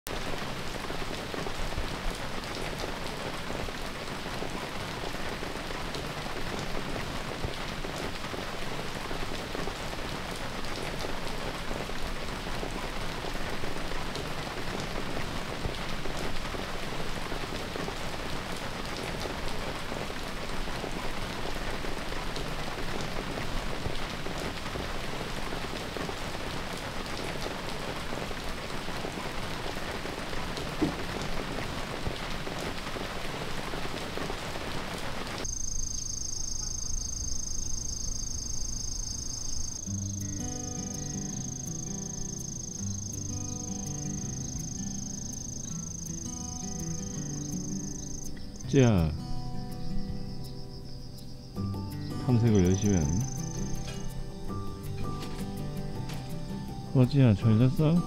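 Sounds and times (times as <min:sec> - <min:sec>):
rain falling: 0:00.1 - 0:58.0.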